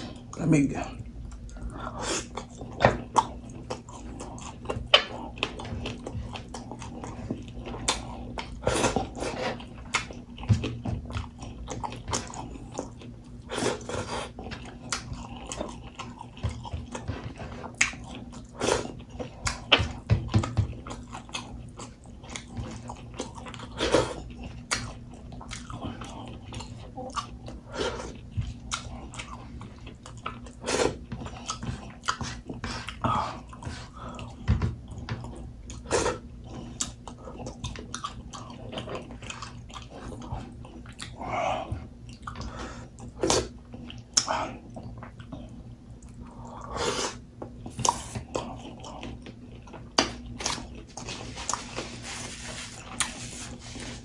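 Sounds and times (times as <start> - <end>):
close chewing: 1.3 - 46.7, 47.4 - 53.6.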